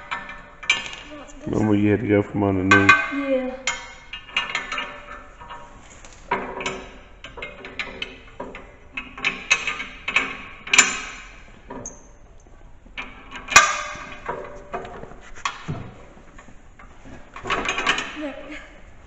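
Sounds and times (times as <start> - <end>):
metallic clinks and knocks: 0.0 - 1.7, 2.7 - 18.4.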